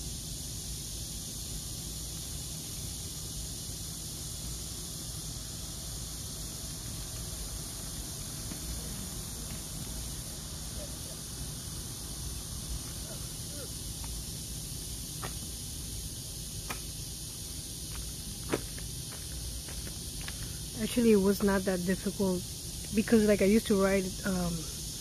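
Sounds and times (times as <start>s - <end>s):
constant high hiss: 0.0s - 25.0s.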